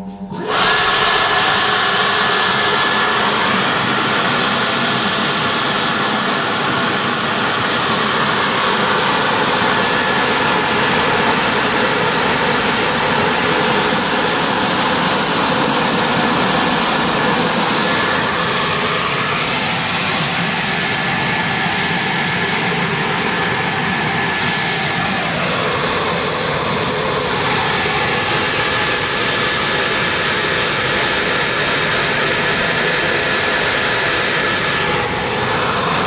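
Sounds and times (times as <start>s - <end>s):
blower rushing air: 0.0s - 36.0s.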